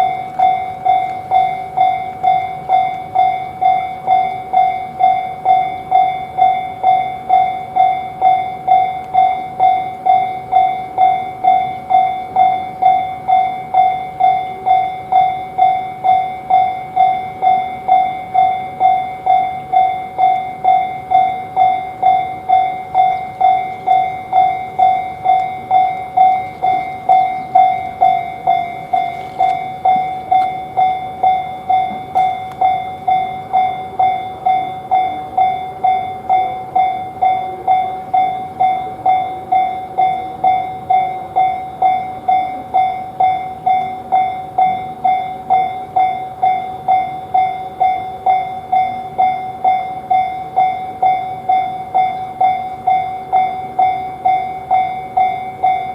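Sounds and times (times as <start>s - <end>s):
faint train: 0.0s - 55.9s
railroad crossing bell ringing: 0.0s - 55.9s.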